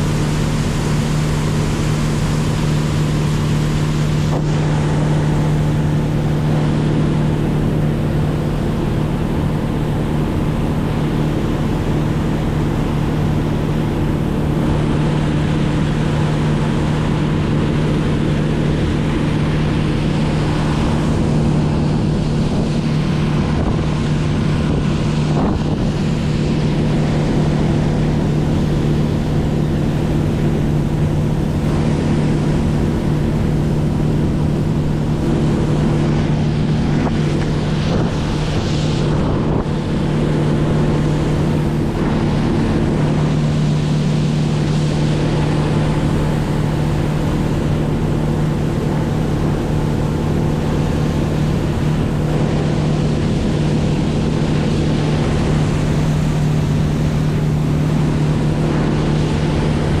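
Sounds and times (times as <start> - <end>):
motorboat engine droning: 0.0 - 60.0.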